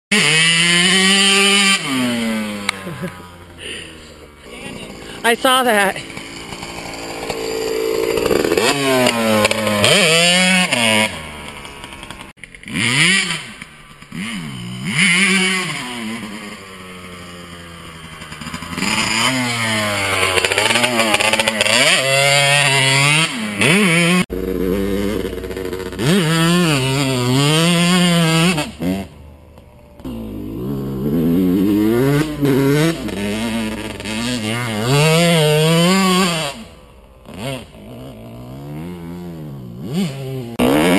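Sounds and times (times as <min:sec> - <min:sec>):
dirt bike engine revving: 0:00.1 - 0:40.9.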